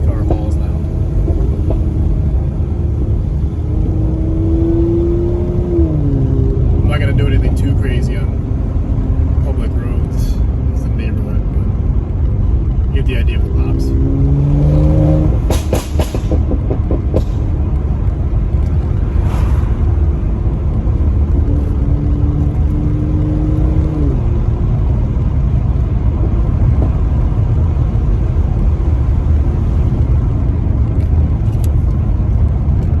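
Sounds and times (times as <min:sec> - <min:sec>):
car exhaust deep rumble: 0:00.0 - 0:33.0.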